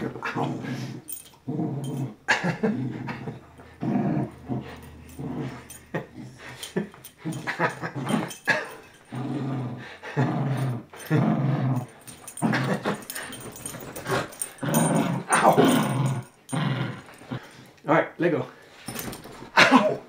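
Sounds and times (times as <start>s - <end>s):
dog growling: 0.0s - 17.7s.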